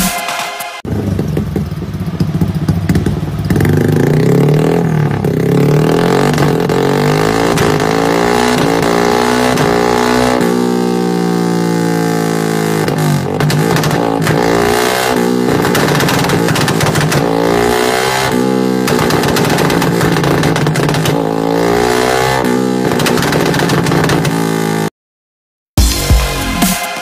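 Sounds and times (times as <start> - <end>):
motorcycle engine revving: 0.8 - 24.9.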